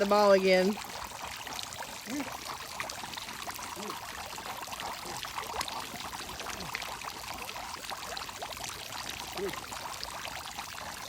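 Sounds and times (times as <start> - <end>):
water jets spraying and pattering: 0.0 - 11.0.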